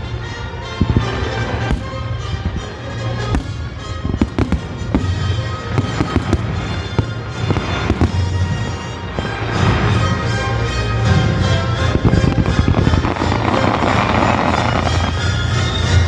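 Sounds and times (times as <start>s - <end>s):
music playing: 0.0s - 16.0s
firework shells bursting: 0.8s - 10.5s, 11.3s - 15.8s.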